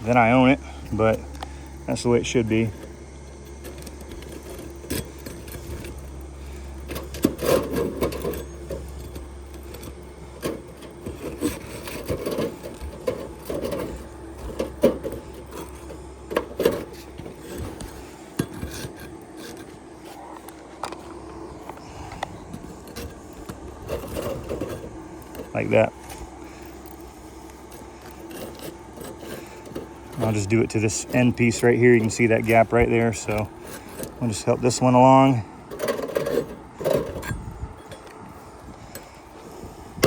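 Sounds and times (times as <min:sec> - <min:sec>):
roof shingles scraping and rubbing: 0:00.0 - 0:40.0
steady low hum: 0:00.0 - 0:40.0.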